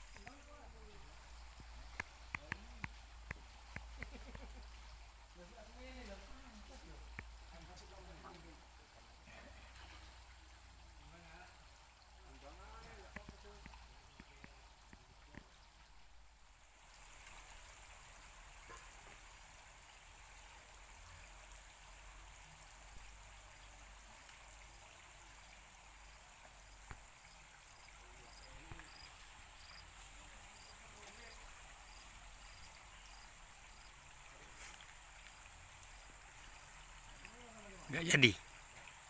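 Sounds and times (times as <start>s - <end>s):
trickling water: 0.0s - 39.0s.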